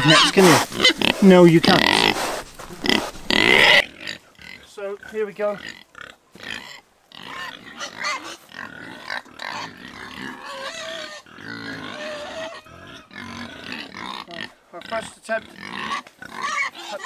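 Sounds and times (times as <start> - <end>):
pigs squealing: 0.0 - 17.0.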